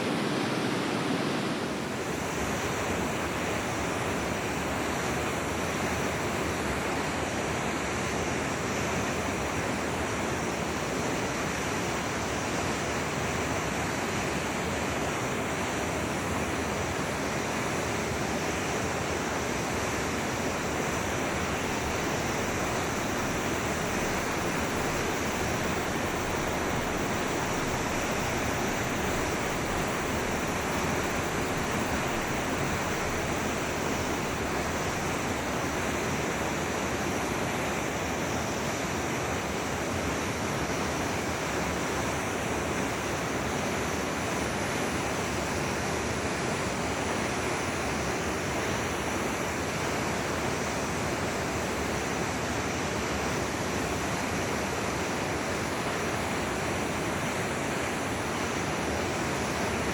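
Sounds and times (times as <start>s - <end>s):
flowing stream rushing: 0.0s - 59.9s.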